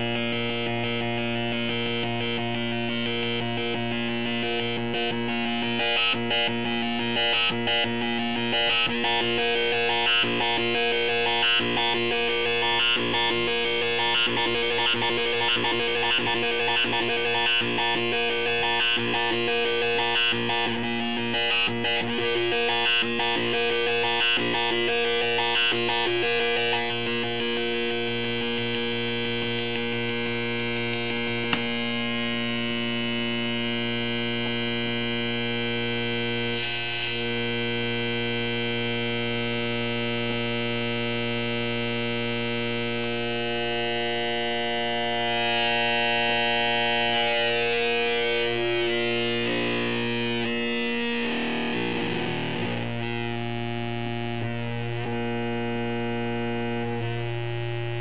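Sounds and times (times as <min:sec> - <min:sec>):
buzzy oscillator tone through filter: 0:00.0 - 0:58.0.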